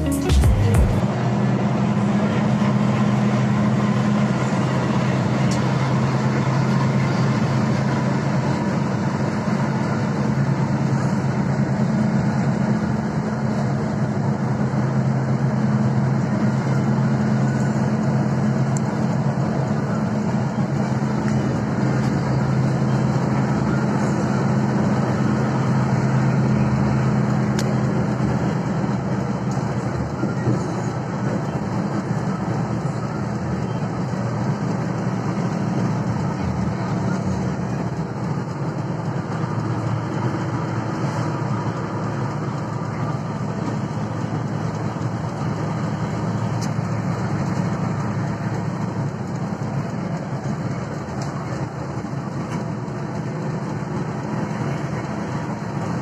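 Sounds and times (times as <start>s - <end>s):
bus engine and road noise: 0.0s - 56.0s.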